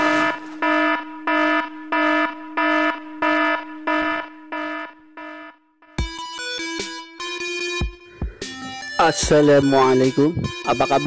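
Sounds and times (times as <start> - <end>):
pulsing electronic alarm beep: 0.0 - 7.9, 9.0 - 11.0.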